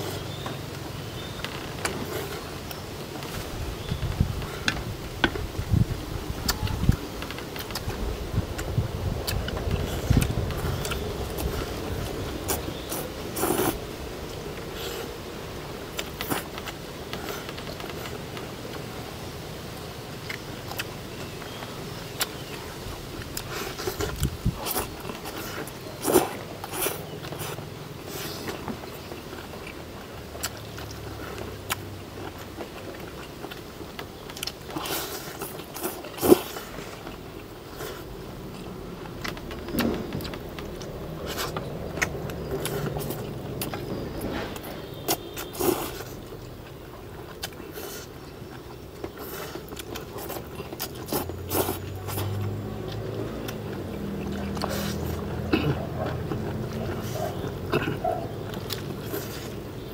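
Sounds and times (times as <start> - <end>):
people chewing: 0.0 - 59.9.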